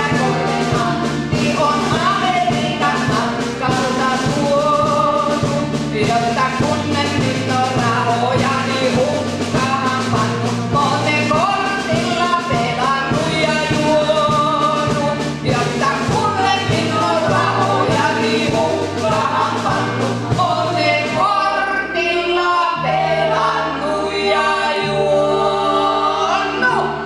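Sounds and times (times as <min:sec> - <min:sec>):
instrumental accompaniment with beat: 0:00.0 - 0:27.0
woman singing into a microphone: 0:00.0 - 0:27.0.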